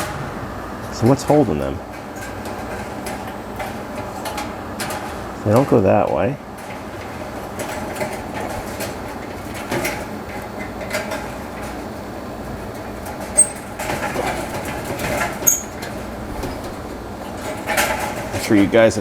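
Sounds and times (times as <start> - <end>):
air conditioning hum: 0.0 - 19.0
rustles and knocks of handling: 0.0 - 19.0.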